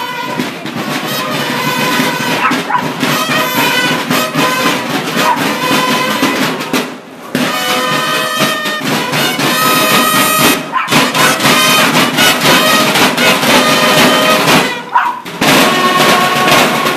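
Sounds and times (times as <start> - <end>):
marching band drums and brass: 0.0 - 16.9.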